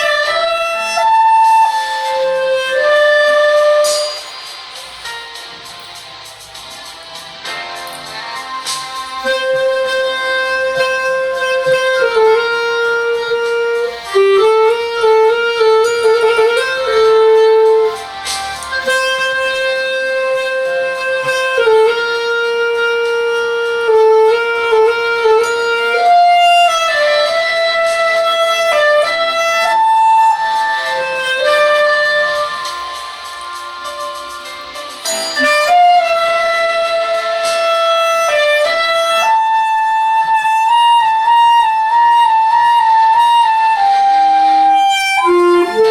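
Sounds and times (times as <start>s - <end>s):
clarinet melody: 0.0s - 45.9s.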